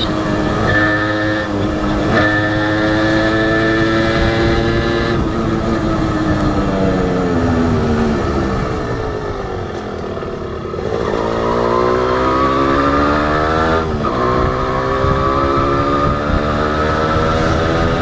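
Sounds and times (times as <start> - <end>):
two-stroke motorcycle engine riding: 0.0 - 18.0.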